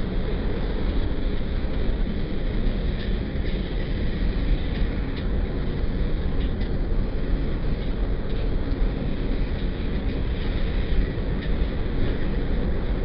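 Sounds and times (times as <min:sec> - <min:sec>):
in-car road noise: 0:00.0 - 0:13.0.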